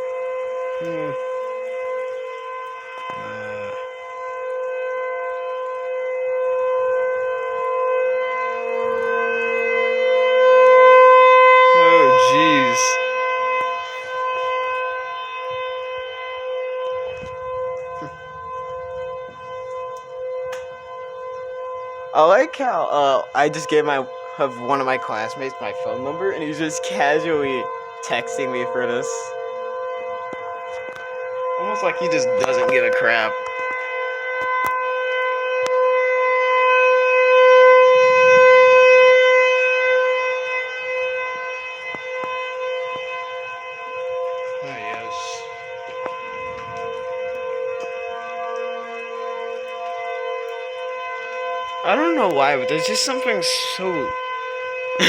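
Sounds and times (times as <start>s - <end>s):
tornado warning siren steady tone: 0.0s - 55.0s.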